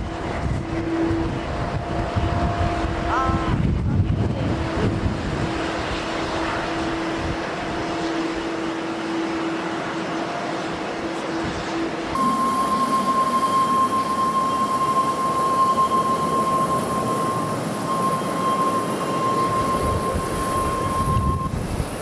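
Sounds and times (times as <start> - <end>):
wind buffeting microphone: 0.0 - 12.2, 15.9 - 22.0
jet engine droning: 0.0 - 22.0.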